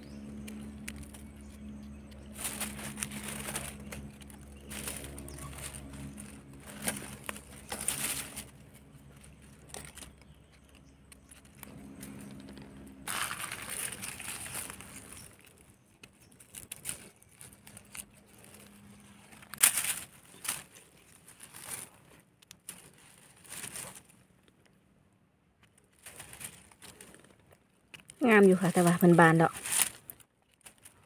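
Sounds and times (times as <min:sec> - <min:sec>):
dry leaves rustling and crackling: 0:00.0 - 0:24.5, 0:25.8 - 0:31.0.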